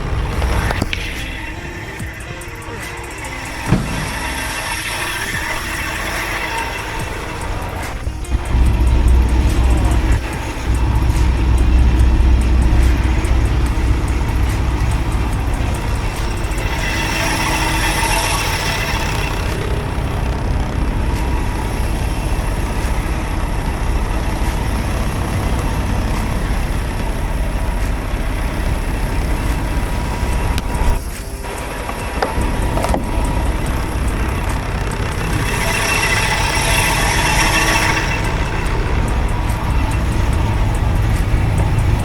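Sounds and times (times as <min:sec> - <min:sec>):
semi truck rumbling: 0:00.0 - 0:42.0.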